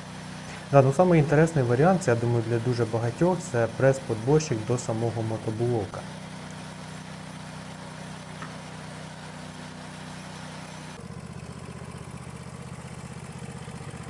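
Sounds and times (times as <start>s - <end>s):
engine with fast pulsing beat: 0.0s - 14.0s
small tractor engine running: 0.0s - 14.0s.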